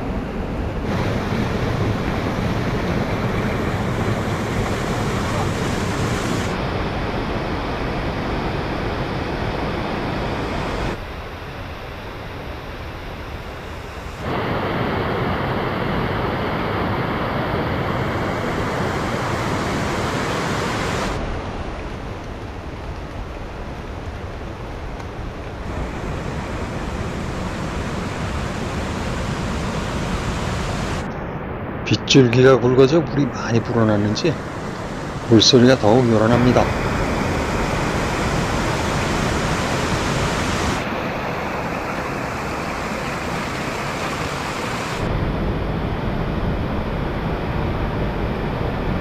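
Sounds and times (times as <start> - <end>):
rushing mountain stream: 0.0 - 11.0, 13.4 - 31.1, 33.1 - 45.7.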